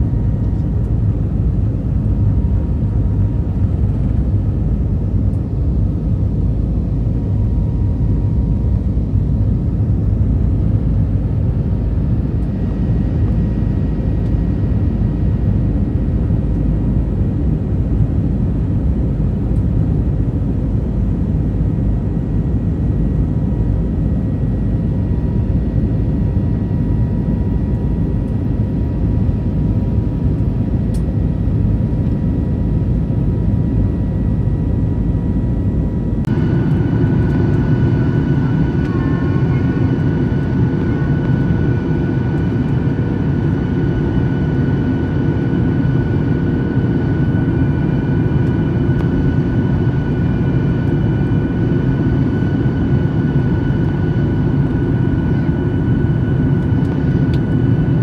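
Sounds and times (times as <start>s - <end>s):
airliner cabin engine rumble: 0.0s - 58.0s
high engine whine: 0.0s - 58.0s.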